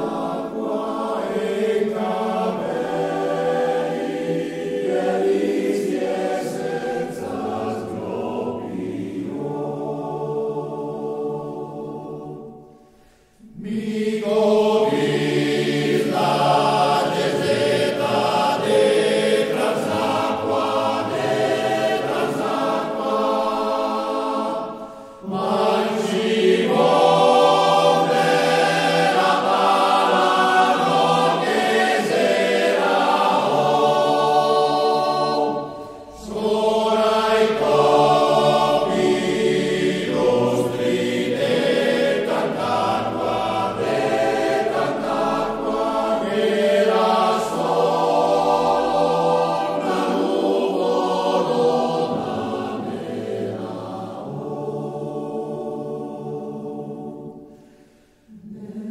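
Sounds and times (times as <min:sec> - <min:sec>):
choir singing: 0:00.0 - 0:58.9.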